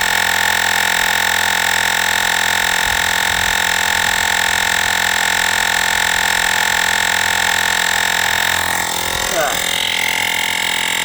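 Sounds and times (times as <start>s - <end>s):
air compressor humming whine: 0.0s - 11.0s.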